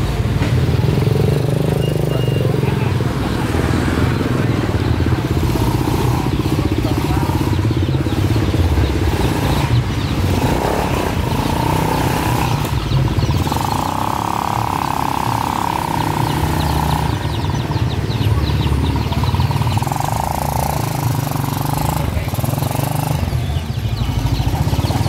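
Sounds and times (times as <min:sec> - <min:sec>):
chicks peeping: 0:00.0 - 0:25.0
motorcycle engines passing: 0:00.0 - 0:25.0.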